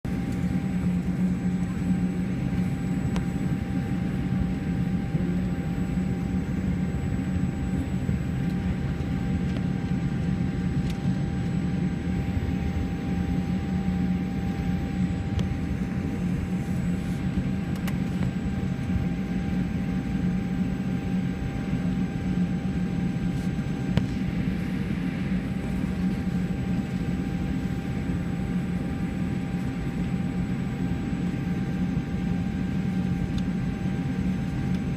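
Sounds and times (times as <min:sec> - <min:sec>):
thin steady jet engine whine: 0:00.0 - 0:34.9
aircraft cabin hum: 0:00.1 - 0:34.9.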